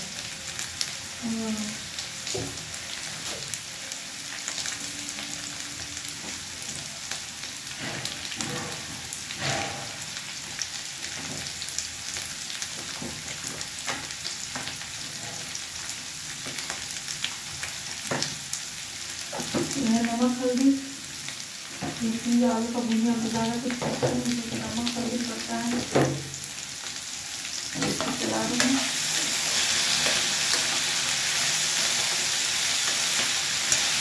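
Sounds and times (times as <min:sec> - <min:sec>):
potatoes sizzling in oil: 0:00.0 - 0:34.0.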